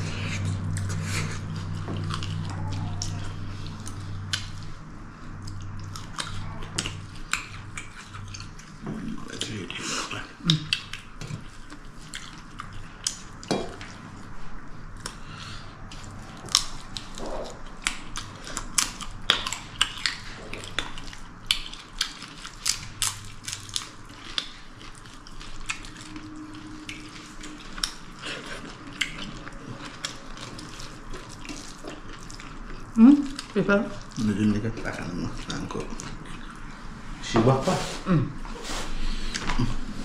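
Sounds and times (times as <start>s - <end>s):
wet chewing clicks and smacks: 0.3s - 9.7s, 10.4s - 14.2s, 15.8s - 36.7s.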